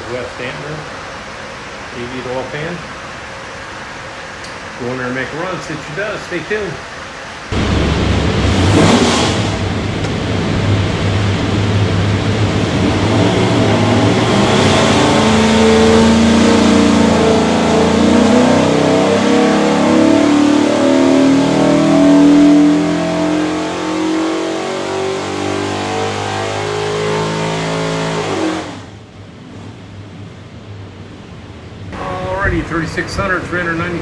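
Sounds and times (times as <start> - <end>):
engine revving on a dyno: 0.0 - 30.3.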